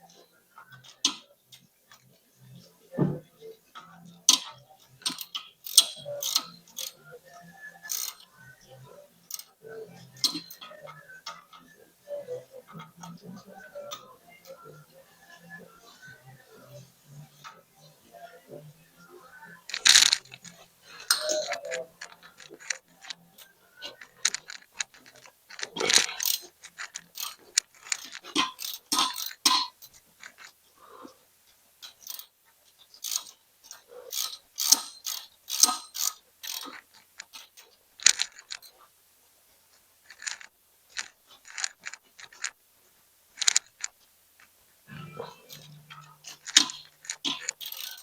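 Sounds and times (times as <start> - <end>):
hand tools clicking and clanking: 0.1 - 2.1, 2.9 - 8.4, 9.2 - 14.9, 19.5 - 38.8, 40.0 - 42.6, 43.4 - 48.0.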